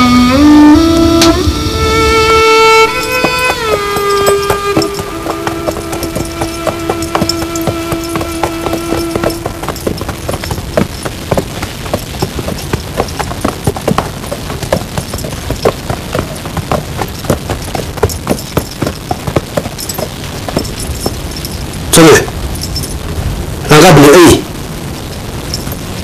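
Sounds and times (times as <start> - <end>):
horse hooves clip-clopping: 0.0 - 26.0.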